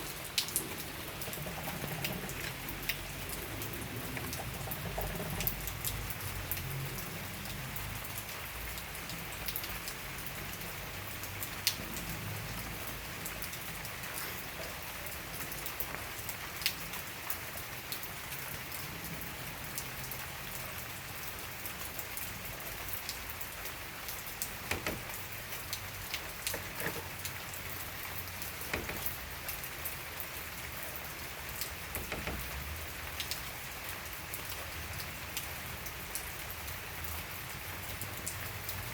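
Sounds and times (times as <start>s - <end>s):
raindrops striking a surface: 0.0s - 38.9s
steady rain hiss: 0.0s - 38.9s.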